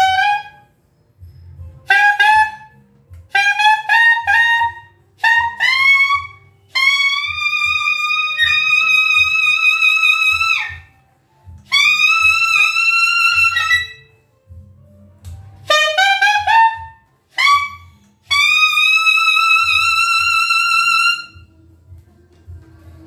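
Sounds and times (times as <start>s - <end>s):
saxophone melody: 0.0s - 0.8s, 1.7s - 14.2s, 15.4s - 21.6s.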